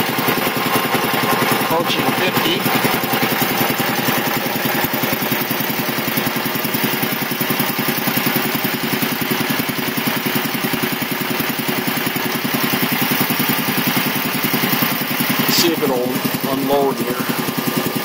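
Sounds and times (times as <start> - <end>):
air compressor pumping: 0.0 - 18.0.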